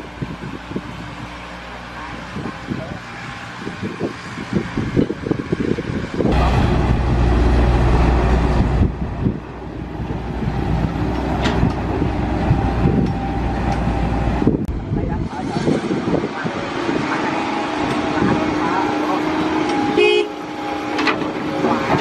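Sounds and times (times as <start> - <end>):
heavy engine rumbling: 0.0 - 22.0.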